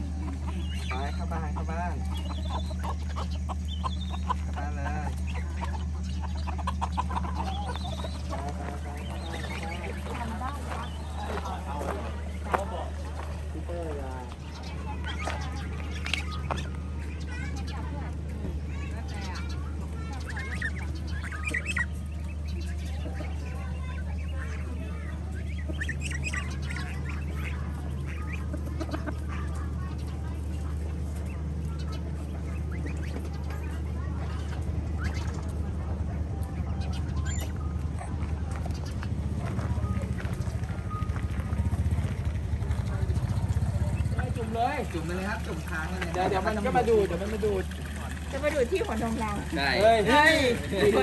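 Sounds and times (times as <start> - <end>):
birds calling: 0.0 - 51.0
steady low hum: 0.0 - 51.0.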